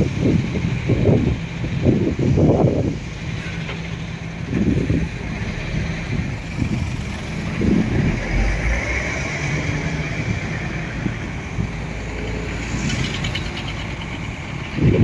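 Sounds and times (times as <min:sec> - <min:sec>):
cars passing by: 0:00.0 - 0:15.0
truck passing: 0:00.0 - 0:15.0.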